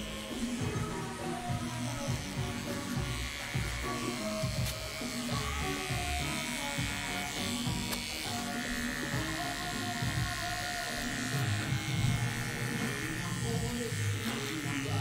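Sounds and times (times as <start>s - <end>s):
background music: 0.0s - 15.0s
electric hair clipper buzzing: 0.0s - 15.0s.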